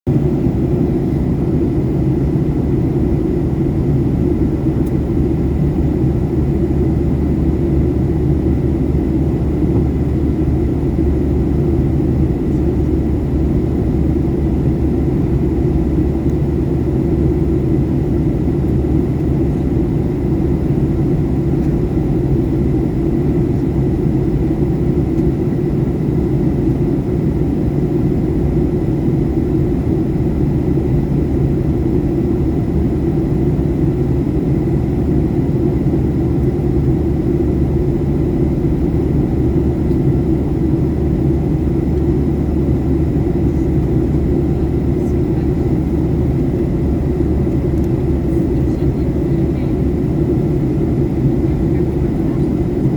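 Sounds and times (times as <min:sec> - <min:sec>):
airplane drone: 0:00.1 - 0:52.9.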